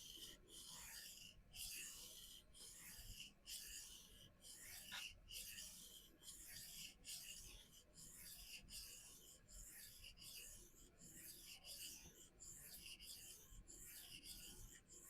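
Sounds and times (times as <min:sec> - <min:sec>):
knife rasping on sharpening stone: 0:00.0 - 0:15.0.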